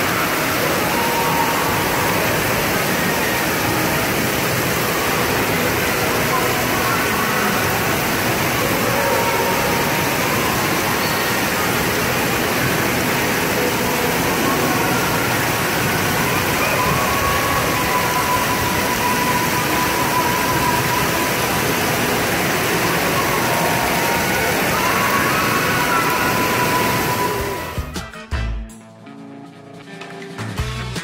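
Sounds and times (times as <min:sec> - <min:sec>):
water rushing down a water slide: 0:00.0 - 0:27.9
water splashing into pool: 0:00.0 - 0:28.0.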